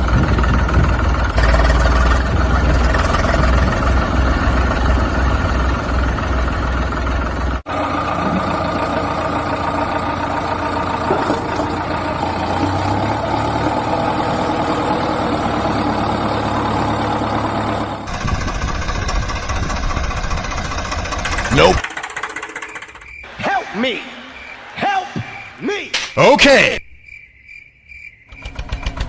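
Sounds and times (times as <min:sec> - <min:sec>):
engine running: 0:00.0 - 0:25.6, 0:28.3 - 0:29.0.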